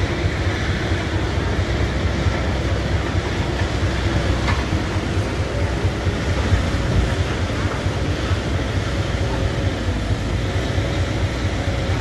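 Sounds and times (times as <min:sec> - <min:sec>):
heavy diesel engines rumbling: 0:00.0 - 0:12.0.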